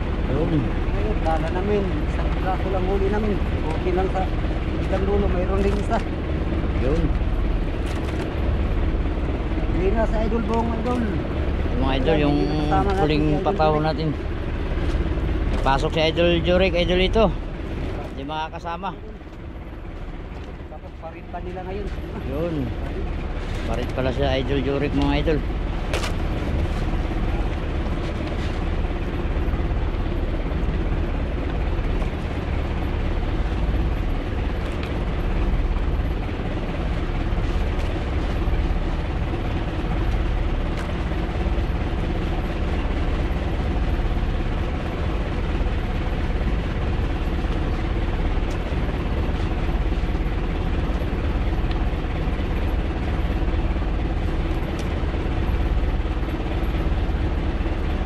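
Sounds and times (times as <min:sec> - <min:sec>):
boat engine drone: 0:00.0 - 0:58.0.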